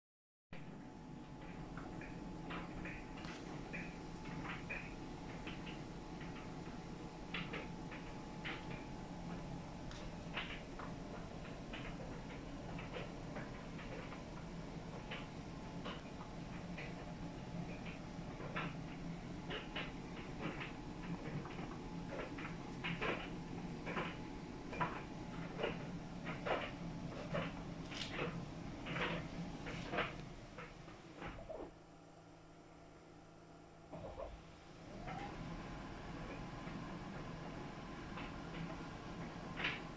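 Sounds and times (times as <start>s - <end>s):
clothes dryer humming: 0.6s - 39.9s.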